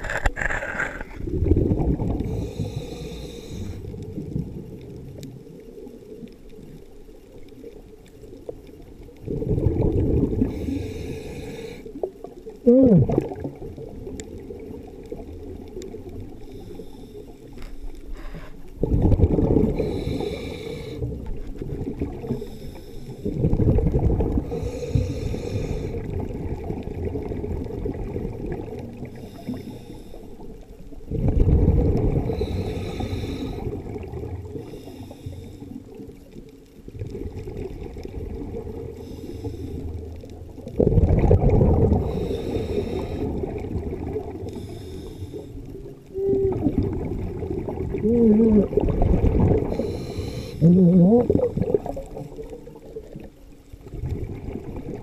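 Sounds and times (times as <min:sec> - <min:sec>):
exhaled bubbles rumbling: 0:00.0 - 0:17.6, 0:18.6 - 0:55.0
underwater noise: 0:00.0 - 0:55.0.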